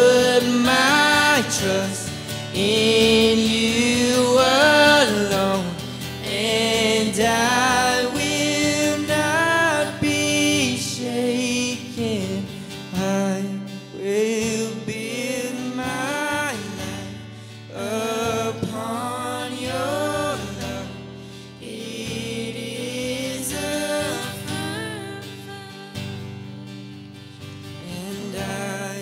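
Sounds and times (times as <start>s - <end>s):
vocalists singing: 0.0s - 26.2s, 27.8s - 29.0s
acoustic guitar chords: 0.0s - 29.0s.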